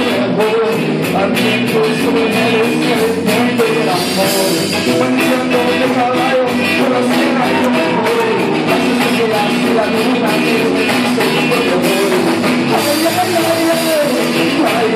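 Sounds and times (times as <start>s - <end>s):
drums beating: 0.0s - 14.9s
live rock band playing: 0.0s - 14.9s.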